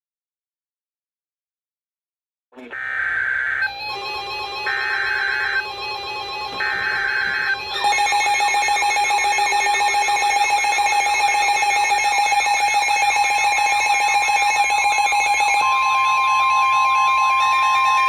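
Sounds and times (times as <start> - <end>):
weather alert alarm warble: 2.7 - 18.0.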